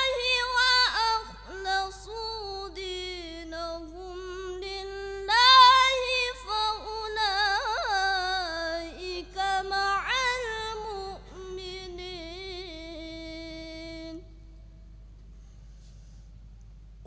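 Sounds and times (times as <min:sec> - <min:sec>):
boy reciting melodically: 0:00.0 - 0:14.3.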